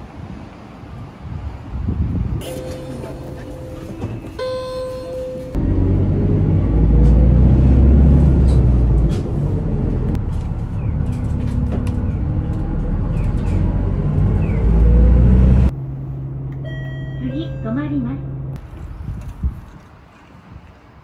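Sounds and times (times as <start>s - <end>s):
bus engine: 0.0s - 21.0s
road rumble: 0.0s - 21.0s.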